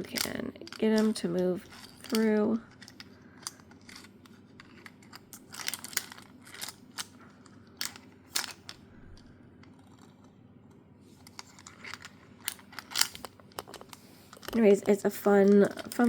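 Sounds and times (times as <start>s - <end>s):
plastic beads clicking and rattling: 0.0s - 10.1s, 11.2s - 16.0s.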